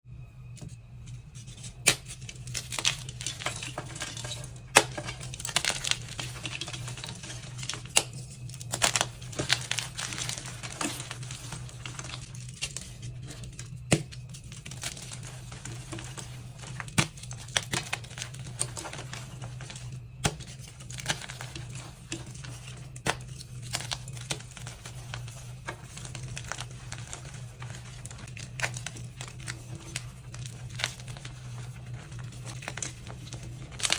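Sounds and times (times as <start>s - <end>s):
chalk crunching and crackling: 0.5s - 33.9s.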